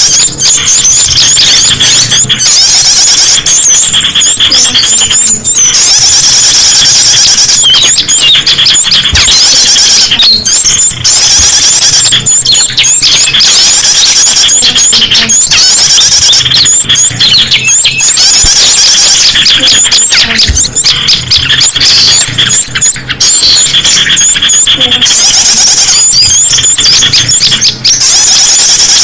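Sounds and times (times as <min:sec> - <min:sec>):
many songbirds chirping: 0:00.0 - 0:28.9.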